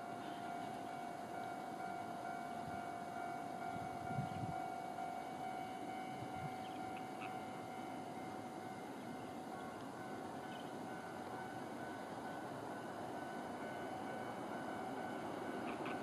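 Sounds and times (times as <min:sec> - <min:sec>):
level-crossing warning alarm: 0:00.0 - 0:16.0.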